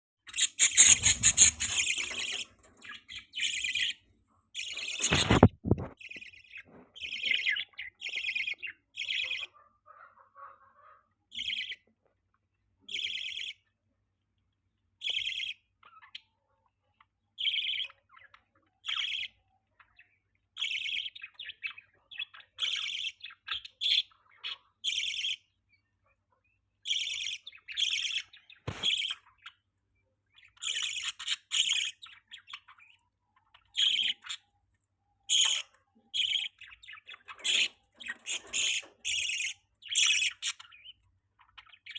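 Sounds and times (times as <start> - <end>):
budgerigars chirping: 0.3 - 11.9, 12.8 - 13.7, 15.0 - 41.9.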